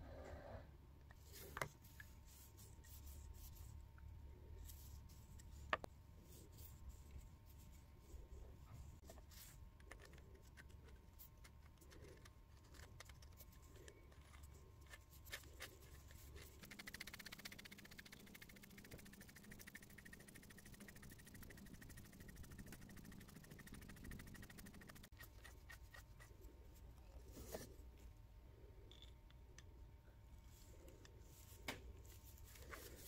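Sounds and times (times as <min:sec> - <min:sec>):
soft rubbing: 0:01.2 - 0:28.1, 0:30.4 - 0:33.0.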